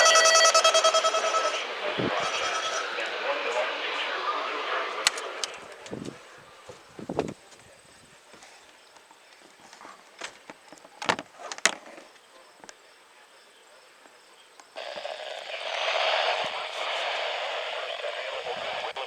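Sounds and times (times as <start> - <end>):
radio static hiss: 0.0 - 12.0, 12.6 - 19.0.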